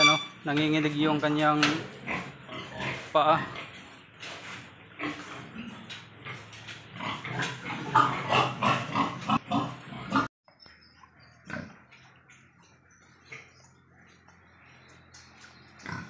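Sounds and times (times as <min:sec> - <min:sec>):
pigs grunting: 0:01.6 - 0:10.3, 0:11.3 - 0:16.0.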